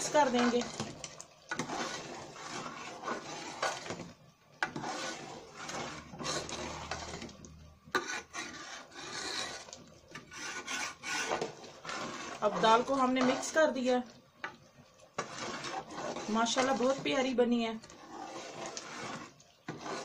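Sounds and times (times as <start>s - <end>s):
metal spoon scraping a pot: 0.0s - 20.0s.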